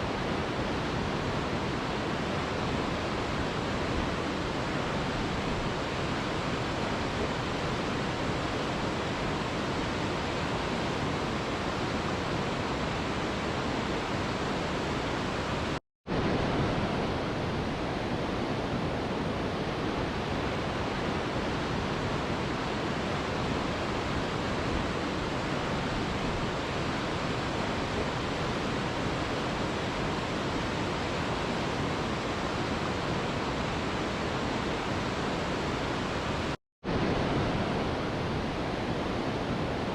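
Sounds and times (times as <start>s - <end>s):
river rushing over rocks: 0.1s - 39.9s.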